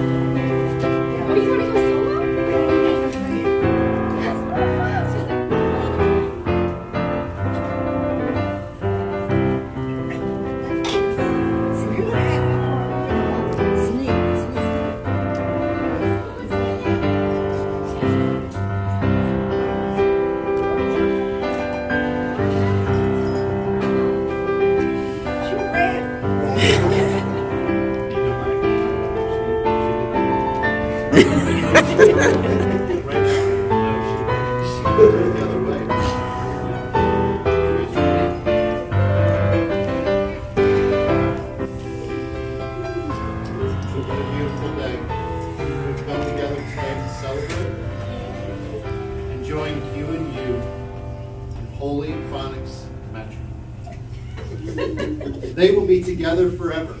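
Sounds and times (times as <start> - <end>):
piano melody of held notes: 0.0 - 54.7.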